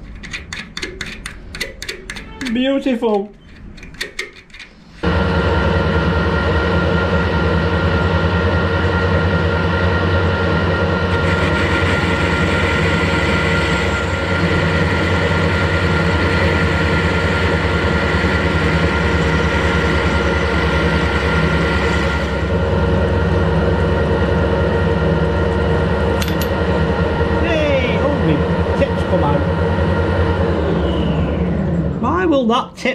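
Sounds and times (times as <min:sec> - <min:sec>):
metal lathe running: 0:00.0 - 0:32.2.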